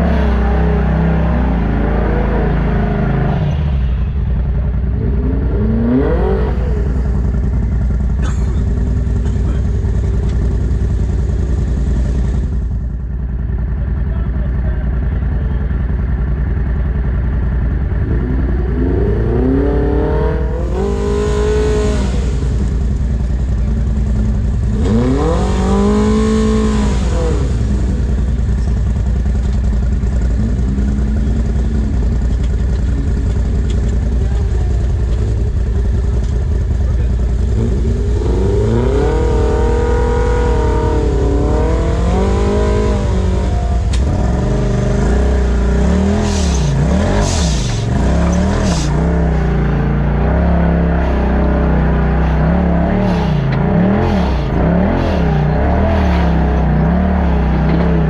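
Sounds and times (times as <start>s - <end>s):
utility vehicle engine revving: 0.0s - 58.0s.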